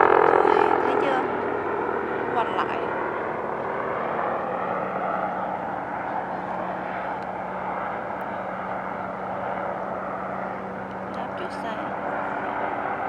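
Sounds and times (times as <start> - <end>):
constant low hum: 0.0 - 13.0
light airplane engine running: 0.0 - 13.0.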